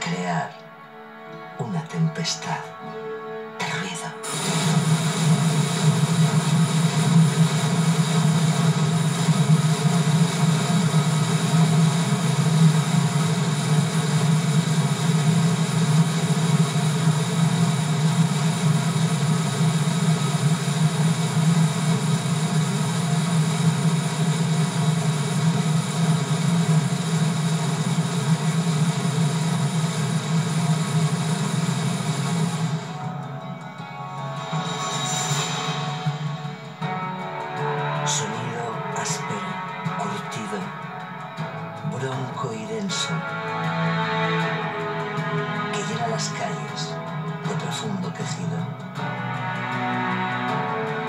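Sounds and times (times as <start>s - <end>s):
drums in continuous roll: 4.2s - 51.0s.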